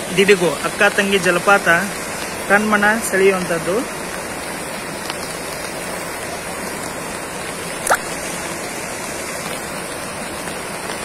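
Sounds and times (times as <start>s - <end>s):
heavy rainfall: 0.0s - 11.0s
waterfall pouring: 0.0s - 11.0s.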